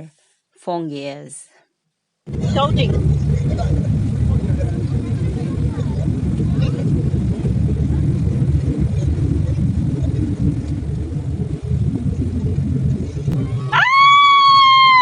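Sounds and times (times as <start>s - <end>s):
boat engine rumbling: 2.3s - 15.0s.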